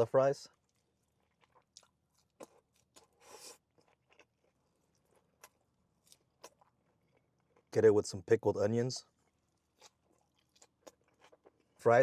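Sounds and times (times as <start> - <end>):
crunchy chewing: 0.5 - 7.8, 9.1 - 11.8.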